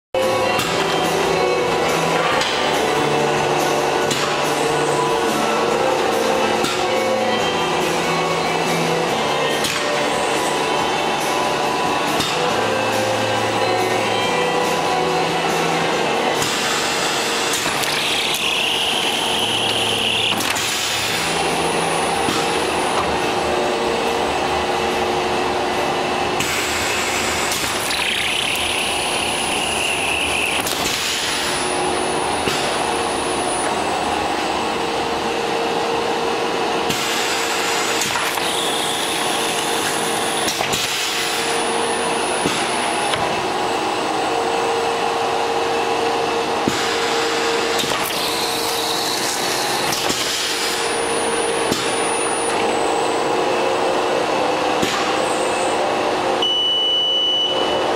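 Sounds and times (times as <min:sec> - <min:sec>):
hissing whine: 0:00.2 - 0:57.9
machine hum: 0:00.2 - 0:57.9.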